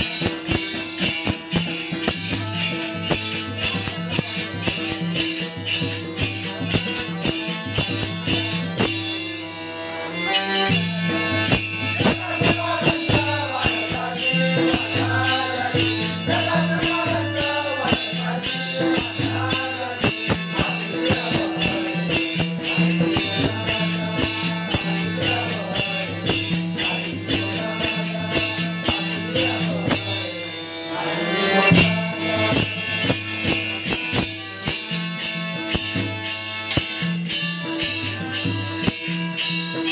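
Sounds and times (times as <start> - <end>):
hand cymbals jingling: 0.0 - 9.4, 10.3 - 30.2, 31.6 - 39.9
steady held drone: 0.0 - 39.1
man singing devotional melody: 0.0 - 39.9.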